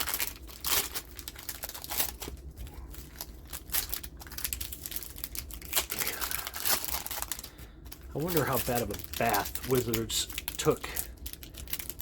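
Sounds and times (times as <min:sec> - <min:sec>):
wrappers crinkling: 0:00.0 - 0:12.0.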